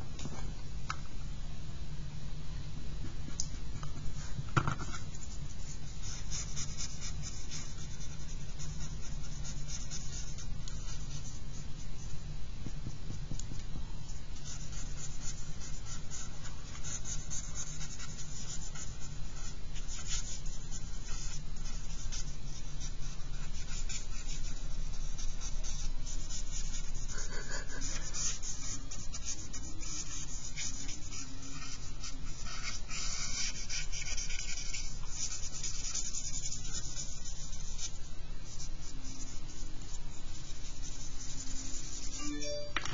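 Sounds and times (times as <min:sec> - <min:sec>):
steady low hum: 0:00.0 - 0:42.9
pencil scratching on paper: 0:04.2 - 0:13.4, 0:14.4 - 0:42.3.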